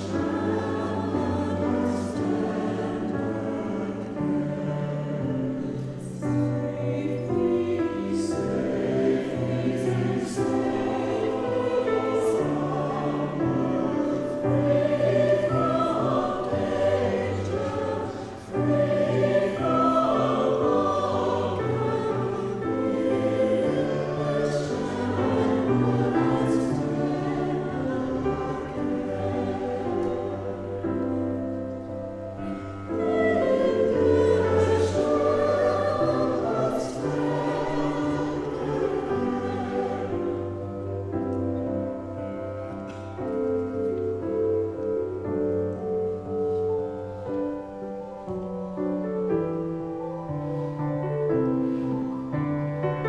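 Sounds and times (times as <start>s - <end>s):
choir singing sustained chords: 0.0s - 53.0s.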